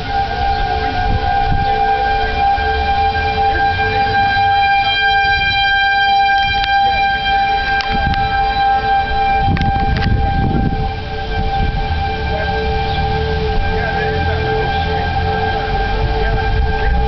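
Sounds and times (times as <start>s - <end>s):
warning siren steady chord: 0.0s - 17.0s
wind rumbling on microphone: 0.0s - 17.0s.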